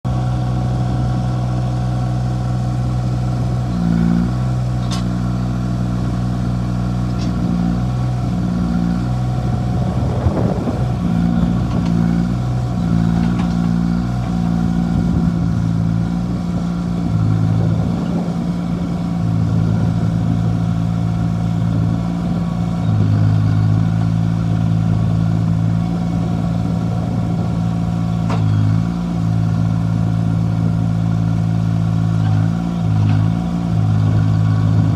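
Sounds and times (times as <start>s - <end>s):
backhoe engine running: 0.0s - 34.9s.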